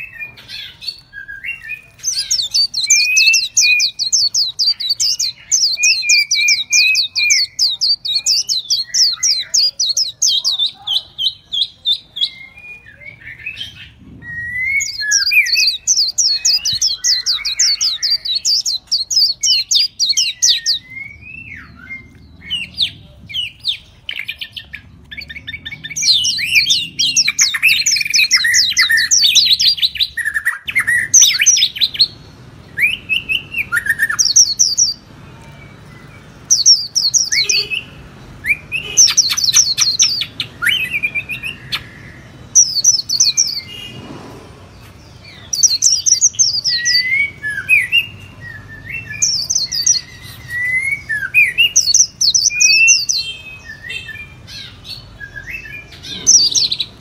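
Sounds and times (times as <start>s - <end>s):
songbirds trilling: 0.0s - 57.0s
whistled bird notes: 0.0s - 57.0s.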